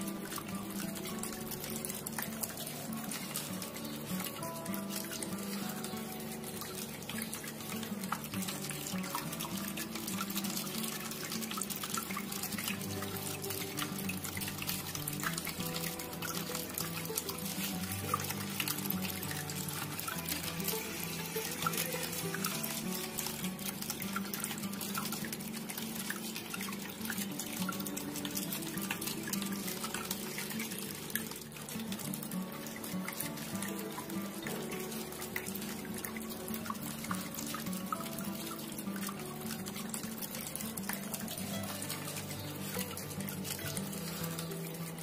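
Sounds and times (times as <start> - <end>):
background music: 0.0 - 45.0
water trickling in a fountain: 0.0 - 45.0.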